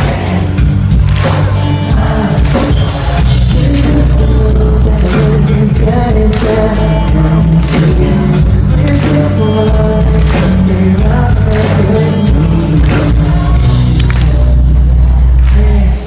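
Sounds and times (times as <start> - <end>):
person singing: 0.0 - 16.0
pop-punk band playing: 0.0 - 16.0.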